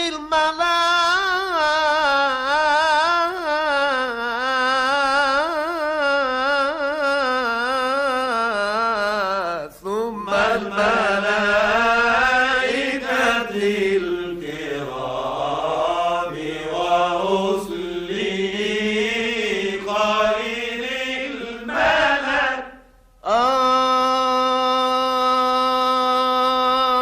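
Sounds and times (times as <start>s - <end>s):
man chanting unaccompanied: 0.0s - 27.0s.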